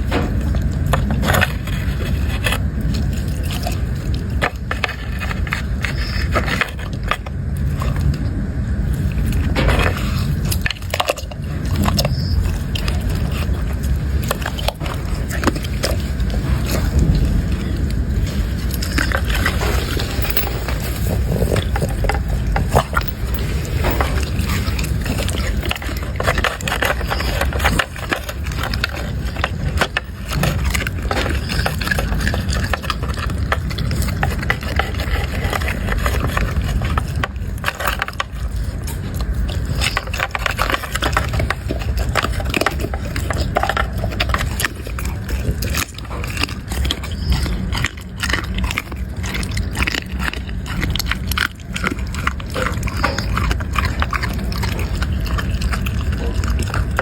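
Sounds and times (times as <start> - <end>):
dog crunching food: 0.0 - 57.0
low rumble: 0.0 - 57.0.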